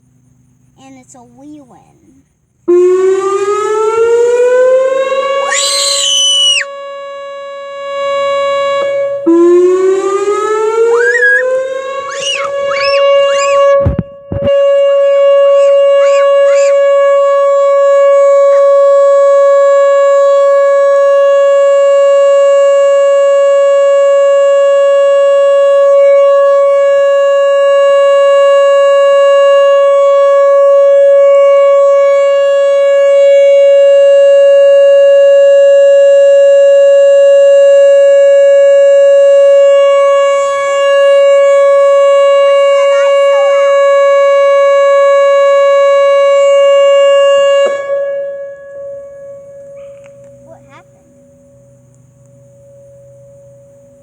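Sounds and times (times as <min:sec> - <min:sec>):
warning siren steady tone: 0:02.6 - 0:54.0.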